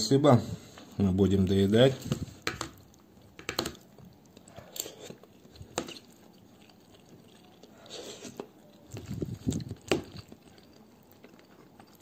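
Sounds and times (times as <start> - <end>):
quiet chewing: 2.1 - 12.0.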